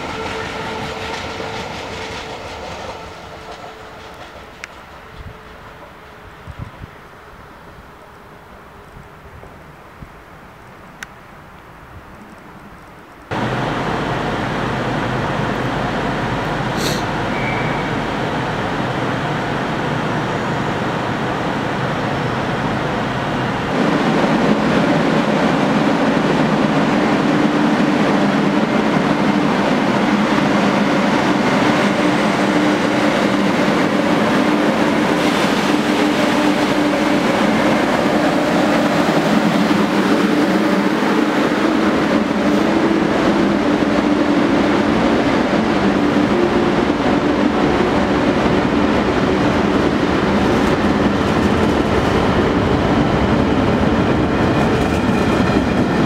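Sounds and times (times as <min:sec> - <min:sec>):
electric train humming past: 0:00.0 - 0:10.8, 0:13.3 - 0:56.0.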